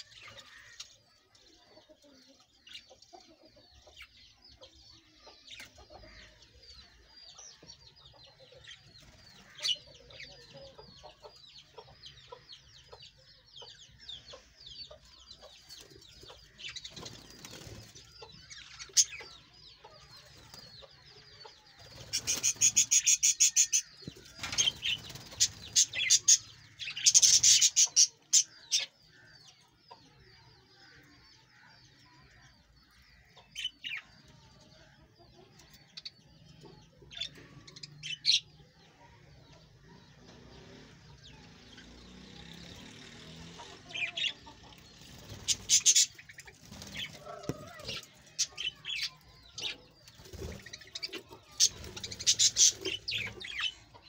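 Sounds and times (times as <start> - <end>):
budgerigars chattering and warbling: 0.0 - 34.2, 34.8 - 54.0.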